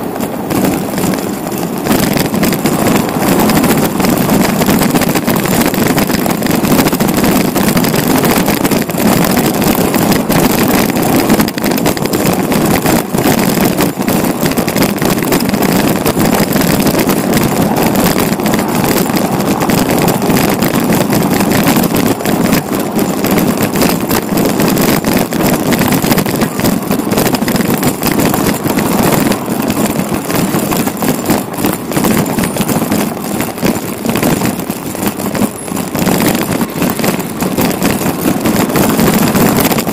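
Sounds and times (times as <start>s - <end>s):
bicycle knocks and rattles: 0.0s - 39.9s
bicycle riding rumble: 0.0s - 39.9s.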